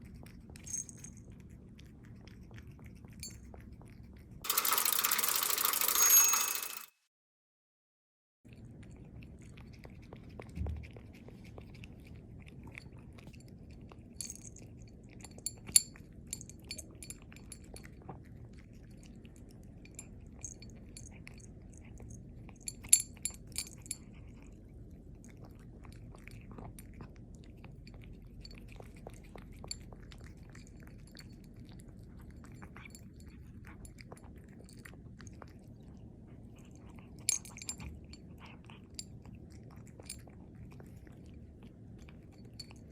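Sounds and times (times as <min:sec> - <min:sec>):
cat chewing meat: 0:00.0 - 0:04.4, 0:08.5 - 0:42.9.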